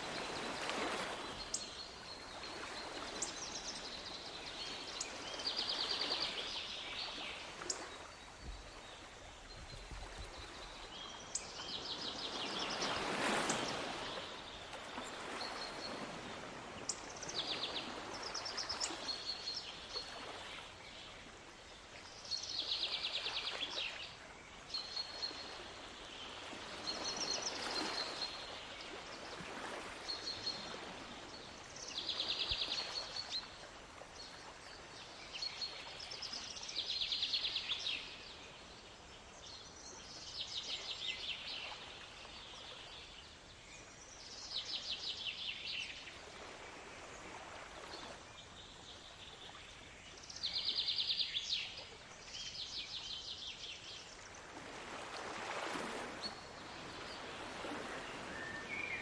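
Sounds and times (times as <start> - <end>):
sea waves: 0.0 - 59.0.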